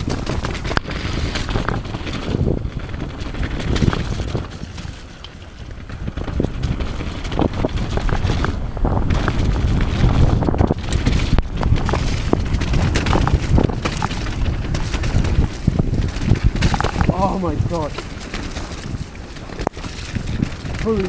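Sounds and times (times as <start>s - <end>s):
bike clattering over rough ground: 0.0s - 21.0s
wind rumbling on microphone: 0.0s - 21.0s.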